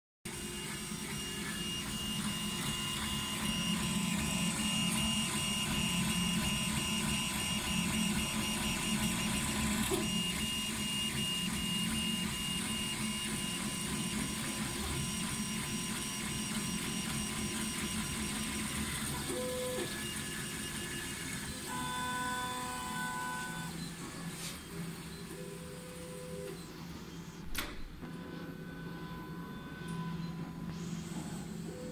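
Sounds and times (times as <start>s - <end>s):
three d printer running: 0.3s - 31.9s.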